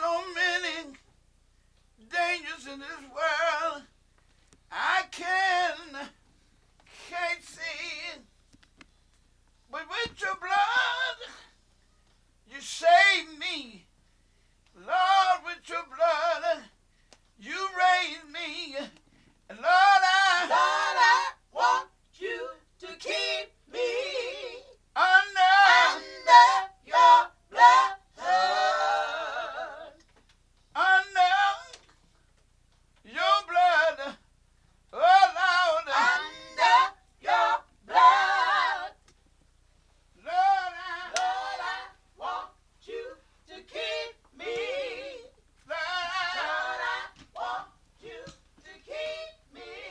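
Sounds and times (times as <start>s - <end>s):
person singing gospel unaccompanied: 0.0s - 1.2s, 2.0s - 8.4s, 9.7s - 11.7s, 12.4s - 14.0s, 14.6s - 32.2s, 33.0s - 39.2s, 40.1s - 49.9s.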